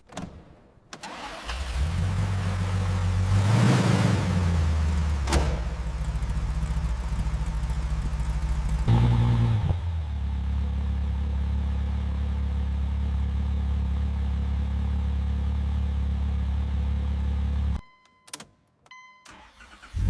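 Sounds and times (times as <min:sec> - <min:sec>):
car engine idling: 0:01.0 - 0:17.8.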